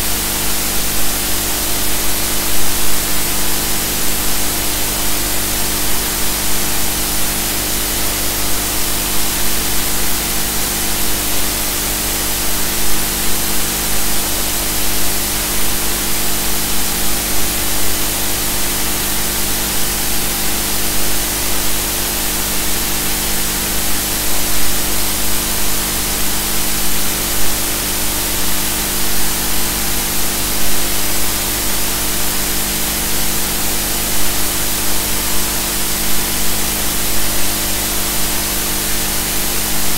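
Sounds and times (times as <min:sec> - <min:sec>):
steady loud hiss: 0:00.0 - 0:39.9.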